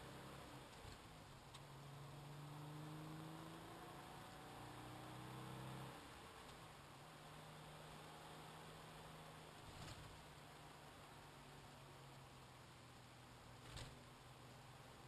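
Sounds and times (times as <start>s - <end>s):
faint car engine hum: 0.0s - 15.0s.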